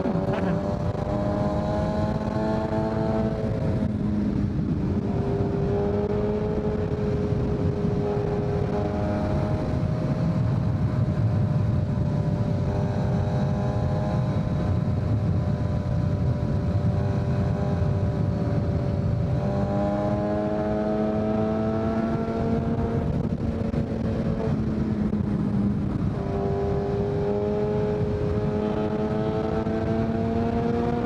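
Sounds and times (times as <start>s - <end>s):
low wind rush: 0.0s - 31.0s
motorcycle engine running: 0.0s - 31.0s.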